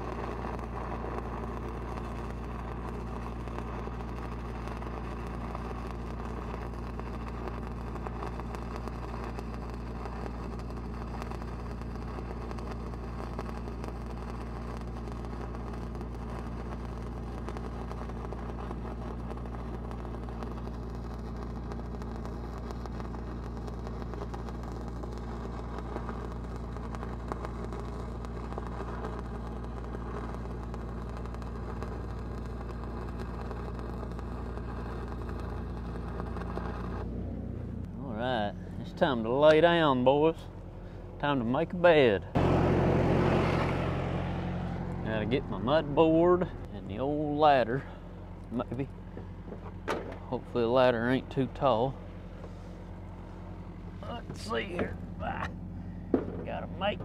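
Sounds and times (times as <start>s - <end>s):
welding arc crackle: 0.0s - 57.0s
welding machine engine running: 0.0s - 57.0s.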